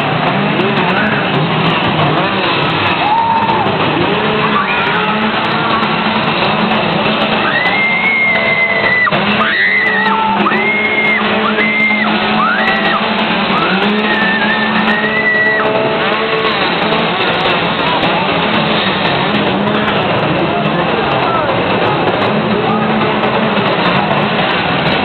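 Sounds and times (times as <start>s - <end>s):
chainsaw revving: 0.0s - 25.0s
people shouting and screaming: 2.1s - 25.0s.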